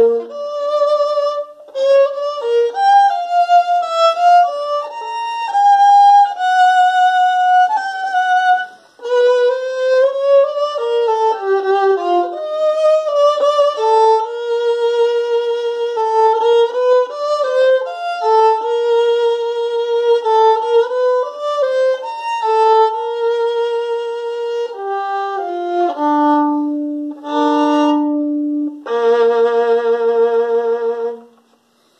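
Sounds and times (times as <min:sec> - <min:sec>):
solo violin playing: 0:00.0 - 0:31.9.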